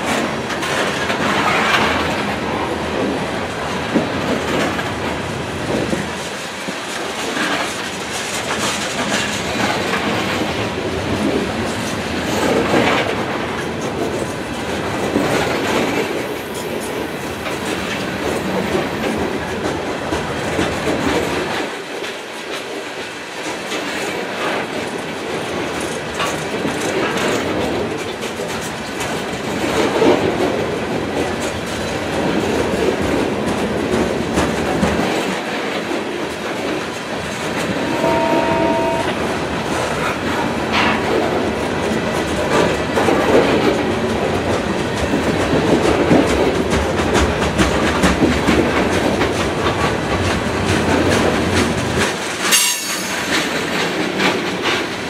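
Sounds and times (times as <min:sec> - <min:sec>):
train wheels rumbling and clacking: 0:00.0 - 0:37.9, 0:39.4 - 0:55.0.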